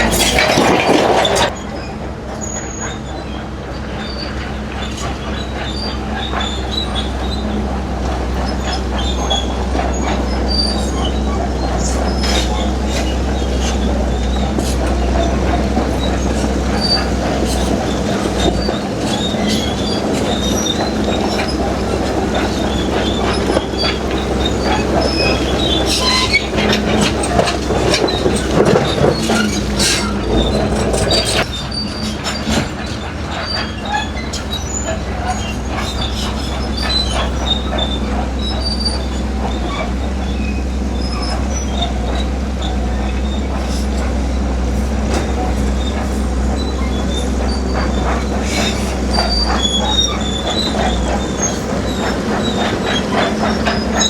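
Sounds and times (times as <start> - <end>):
bulldozer diesel engine droning: 0.0 - 54.0
steel tracks clanking and squealing: 0.0 - 54.0.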